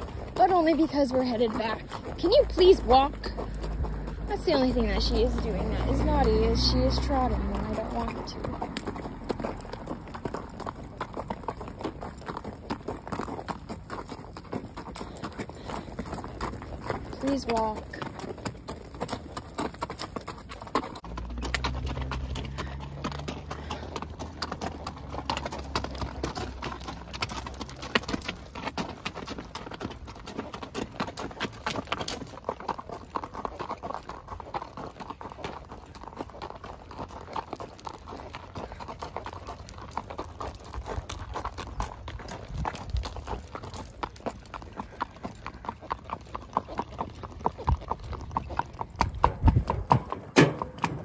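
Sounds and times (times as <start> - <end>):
horse hooves on gravel: 0.0 - 51.0.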